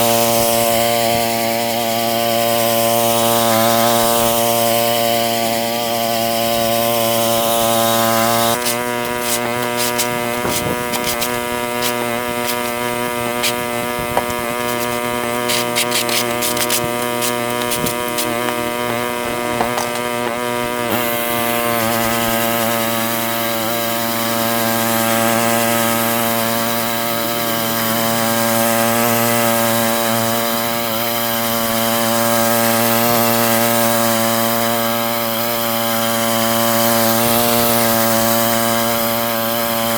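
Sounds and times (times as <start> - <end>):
wire brush scraping grit: 0.0 - 39.9.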